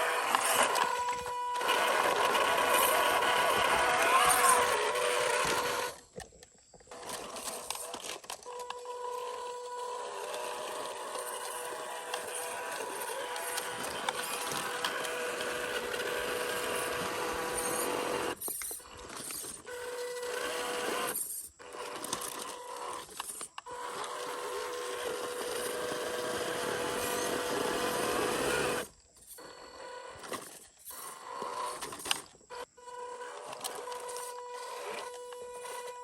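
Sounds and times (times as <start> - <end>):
toy car electric motor whining: 0.0 - 36.0.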